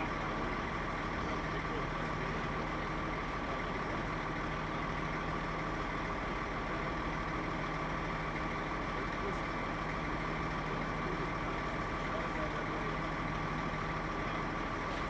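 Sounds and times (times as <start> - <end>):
lorry engine idling: 0.0 - 15.0.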